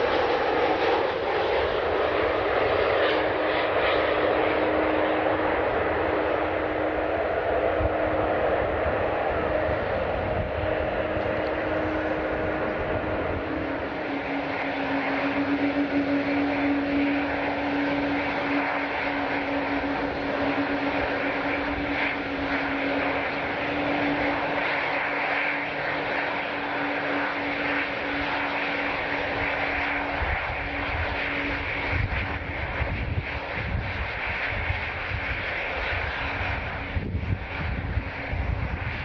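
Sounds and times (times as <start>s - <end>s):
airliner engines running: 0.0s - 39.0s.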